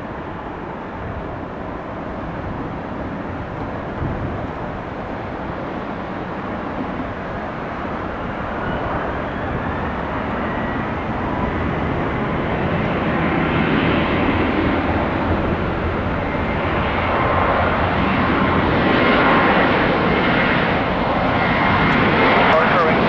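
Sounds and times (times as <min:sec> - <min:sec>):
faint high engine whine: 0:00.0 - 0:23.0
jet airliner noise: 0:00.0 - 0:23.0.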